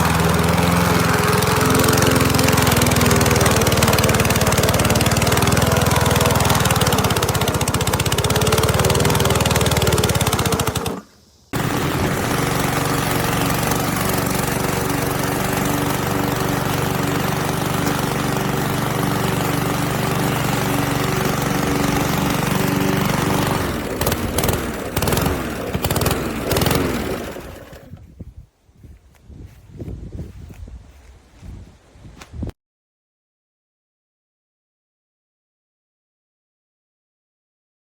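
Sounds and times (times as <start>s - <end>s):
lawn mower engine running: 0.0s - 31.5s.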